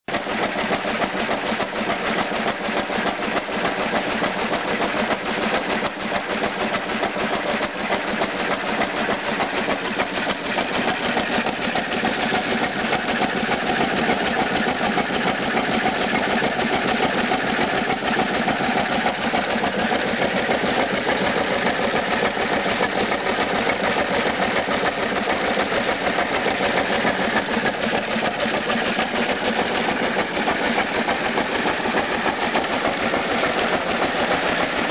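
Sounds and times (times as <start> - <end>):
engine driving water pump: 0.0 - 34.9.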